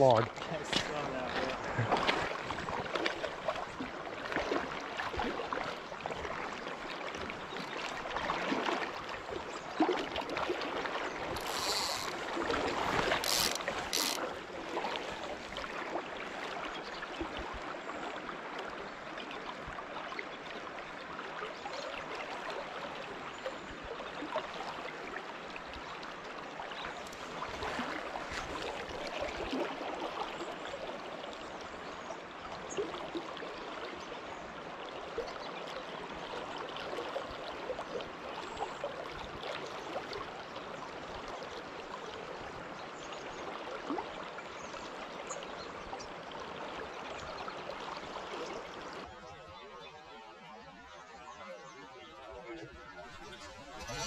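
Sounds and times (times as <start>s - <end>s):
river current rushing and gurgling: 0.0s - 54.0s.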